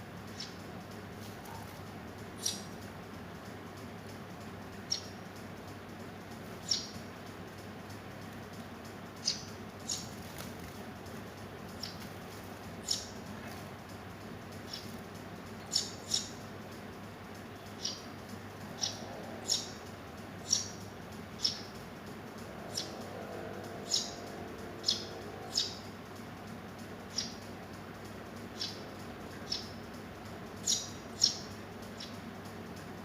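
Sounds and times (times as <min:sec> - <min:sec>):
young sparrows chirping: 0:00.2 - 0:33.0.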